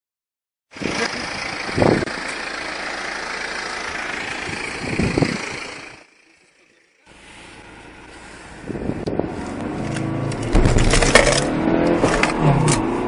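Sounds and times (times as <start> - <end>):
car engine and road noise: 0.7 - 13.0.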